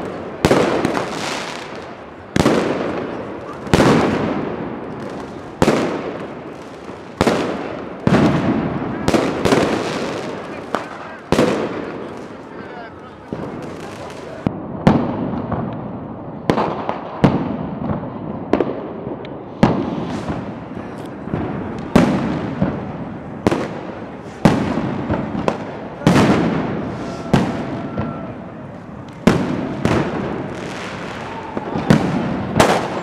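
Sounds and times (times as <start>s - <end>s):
fireworks bangs with echoing rumble: 0.0s - 33.0s.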